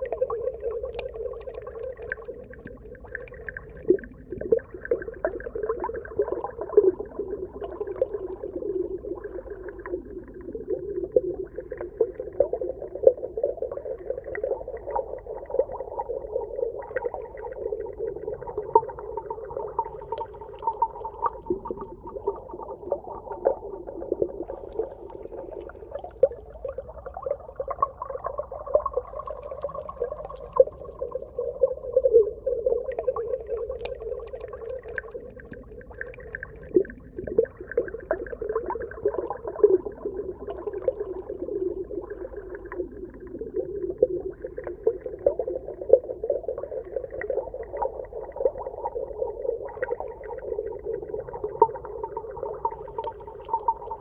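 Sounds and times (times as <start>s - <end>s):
muffled underwater wash: 0.0s - 54.0s
small underwater clicks and crackles: 0.0s - 54.0s.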